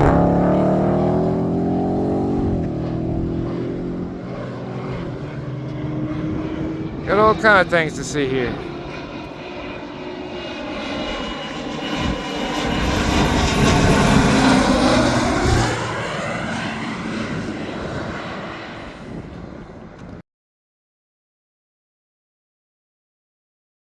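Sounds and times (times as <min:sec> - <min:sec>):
engine passing by: 0:00.0 - 0:19.4.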